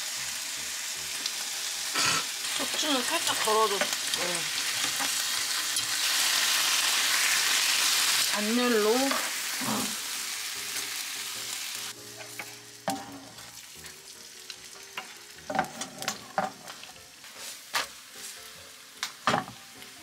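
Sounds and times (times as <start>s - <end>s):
batter sizzling in a pan: 0.0s - 20.0s.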